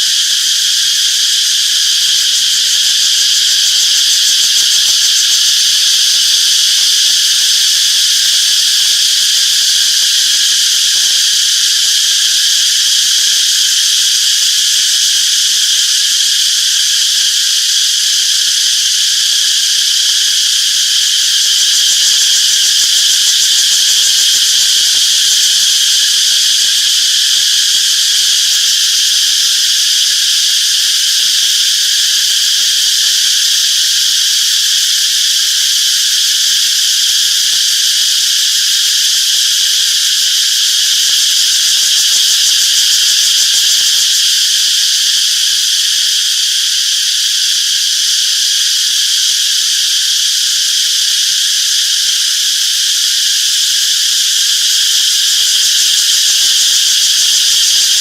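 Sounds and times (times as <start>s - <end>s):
cicadas buzzing drone: 0.0s - 58.0s.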